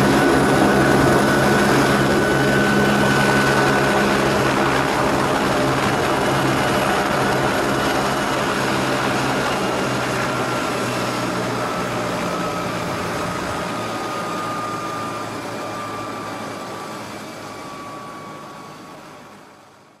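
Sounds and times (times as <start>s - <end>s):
helicopter turbine whine and rotor: 0.0s - 20.0s.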